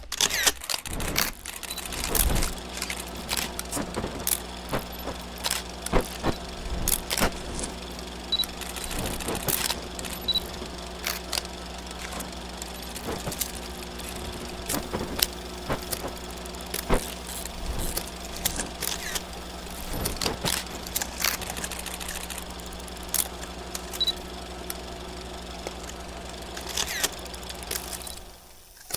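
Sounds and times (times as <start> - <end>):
film crackles and pops: 0.0 - 28.9
projector motor hum: 0.7 - 28.9.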